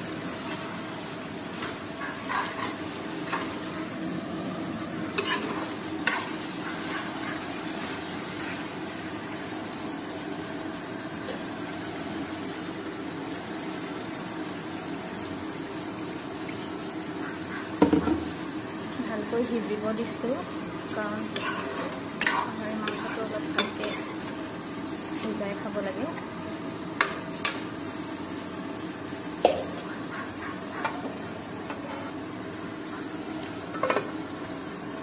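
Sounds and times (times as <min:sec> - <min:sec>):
meat and greens sizzling: 0:00.0 - 0:35.0.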